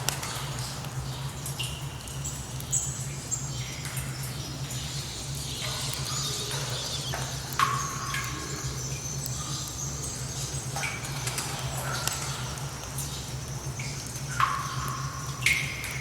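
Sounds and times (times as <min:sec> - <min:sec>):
water drops plinking into pools: 0:00.0 - 0:16.0.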